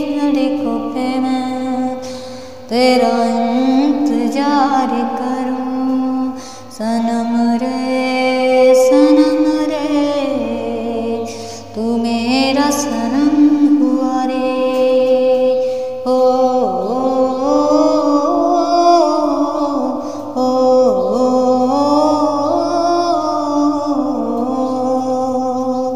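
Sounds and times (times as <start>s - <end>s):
woman singing wordless melody: 0.0s - 25.9s.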